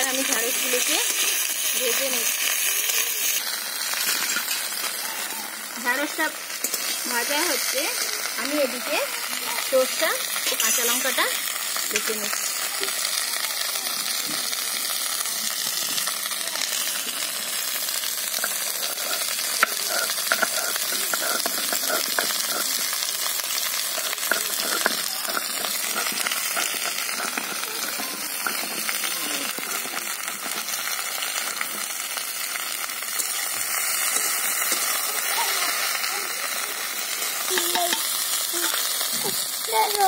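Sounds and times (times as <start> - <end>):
okra sizzling in oil: 0.0 - 40.0.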